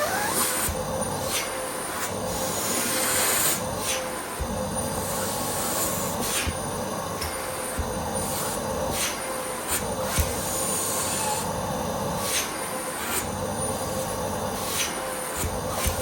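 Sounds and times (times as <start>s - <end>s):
vacuum cleaner whooshing drone: 0.0s - 16.0s.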